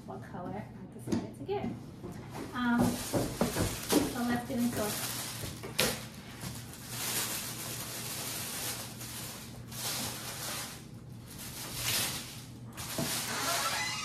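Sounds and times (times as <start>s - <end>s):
tissue paper rustling: 2.6s - 14.0s.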